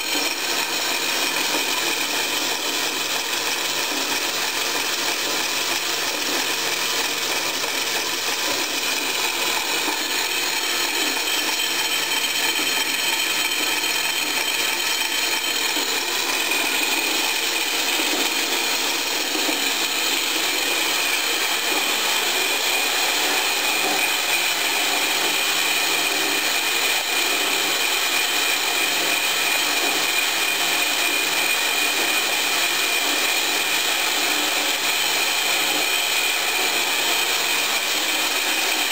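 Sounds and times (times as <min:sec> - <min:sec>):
band saw cutting metal bar: 0:00.0 - 0:38.9.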